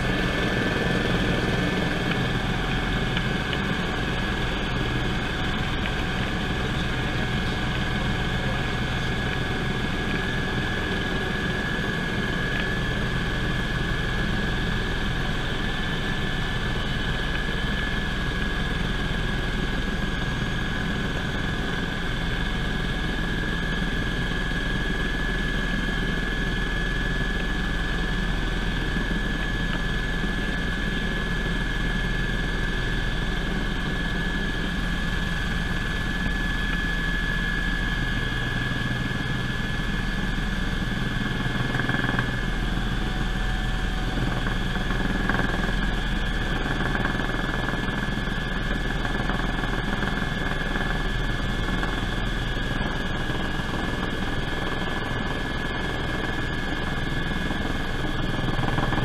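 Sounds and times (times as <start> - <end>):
helicopter cabin drone: 0.0 - 59.0.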